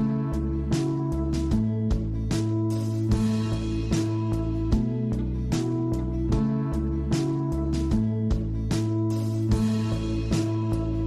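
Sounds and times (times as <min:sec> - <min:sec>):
gentle plucked instrumental music: 0:00.0 - 0:11.0.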